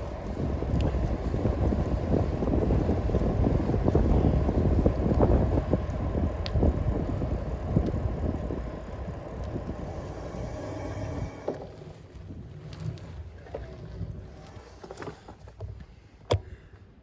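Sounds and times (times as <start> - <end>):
wind buffeting microphone: 0.0 - 14.5.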